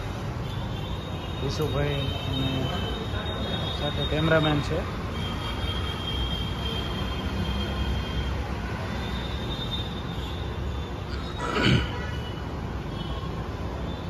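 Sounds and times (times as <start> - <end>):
road traffic hum: 0.0 - 14.0.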